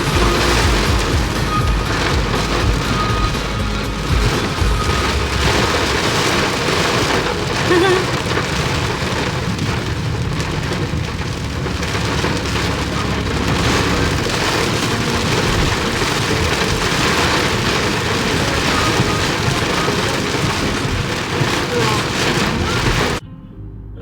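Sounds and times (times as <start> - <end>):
rain and wind hissing: 0.0 - 23.2
low rumble: 0.0 - 24.0.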